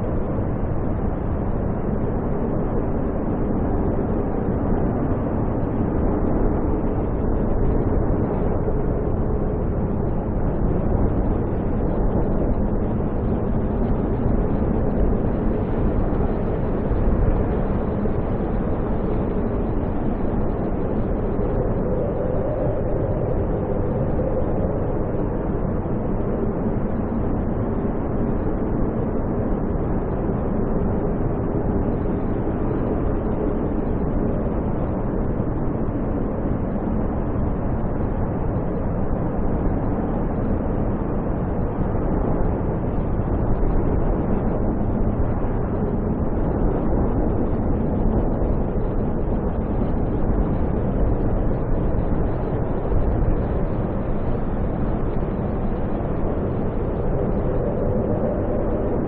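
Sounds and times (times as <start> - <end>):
snowstorm wind blowing: 0.0 - 59.0.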